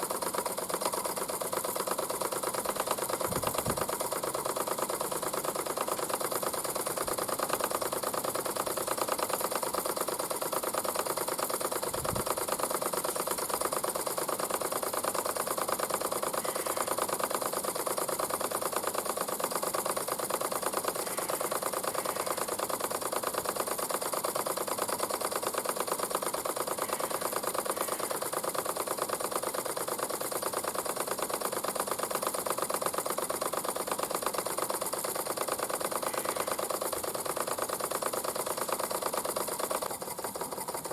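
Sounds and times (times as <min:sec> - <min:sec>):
steam engine ticking: 0:00.0 - 0:40.9.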